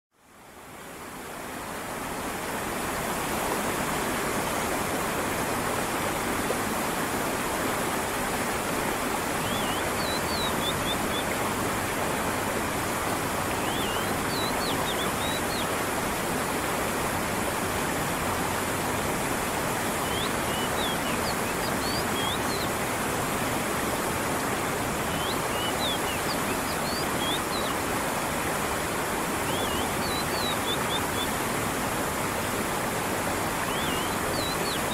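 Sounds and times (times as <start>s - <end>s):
stream water running and splashing: 0.2s - 34.9s.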